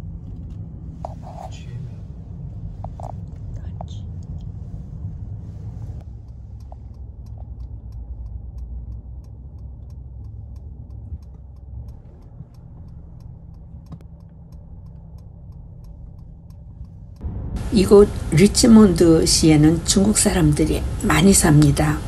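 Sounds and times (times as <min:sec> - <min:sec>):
car engine and road rumble: 0:00.0 - 0:22.0
turn signal ticking: 0:00.2 - 0:22.0.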